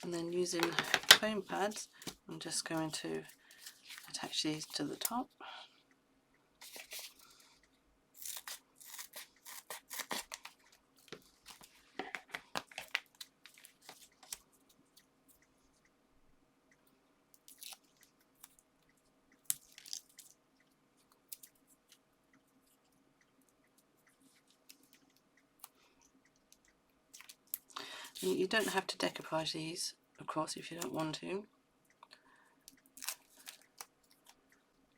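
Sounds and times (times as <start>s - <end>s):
crinkles ticks and rustles: 0.0s - 16.0s, 16.7s - 34.9s.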